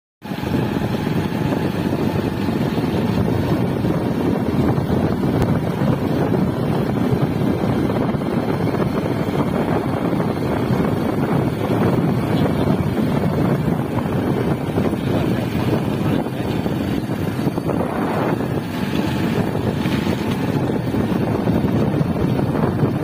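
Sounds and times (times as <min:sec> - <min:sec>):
wind buffeting microphone: 0:00.2 - 0:23.0.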